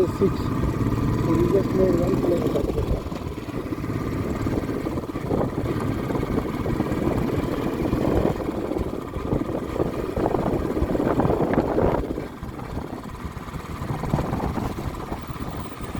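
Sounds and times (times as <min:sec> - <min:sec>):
fluttering vehicle engine: 0:00.0 - 0:15.9
road rumble: 0:00.0 - 0:15.9.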